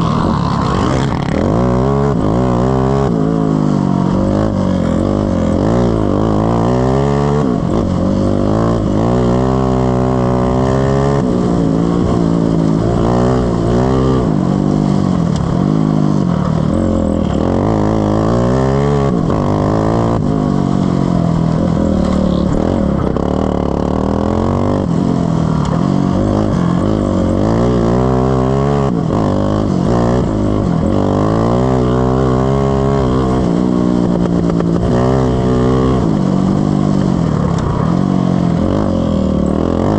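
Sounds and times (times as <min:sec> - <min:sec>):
racing mower engines running hard: 0:00.0 - 0:39.9.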